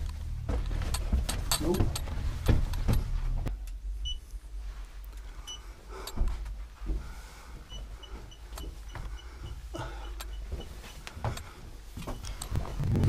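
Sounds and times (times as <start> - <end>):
footsteps in rock tunnel: 0.0 - 3.6, 4.6 - 13.0.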